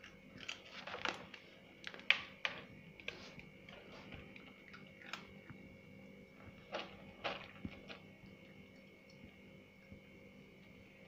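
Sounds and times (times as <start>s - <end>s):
cat crunching food: 0.0s - 10.0s
faint steady hum: 0.0s - 11.0s.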